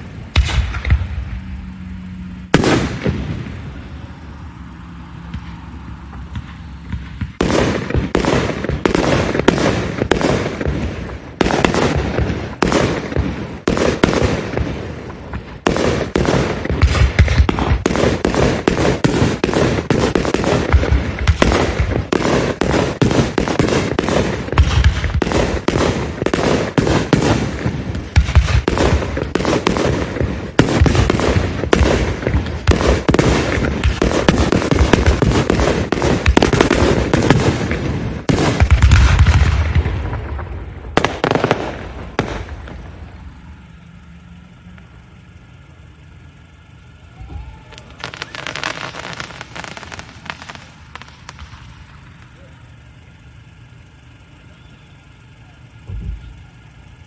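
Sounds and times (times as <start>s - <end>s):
deep fireworks booms: 0.0s - 57.0s
fireworks bangs and crackling: 0.0s - 57.0s.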